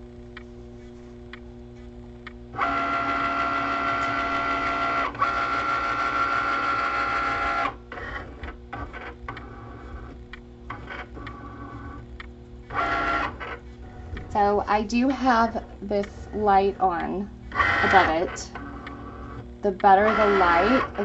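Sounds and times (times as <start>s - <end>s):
cutting machine motors whirring: 2.6s - 21.0s.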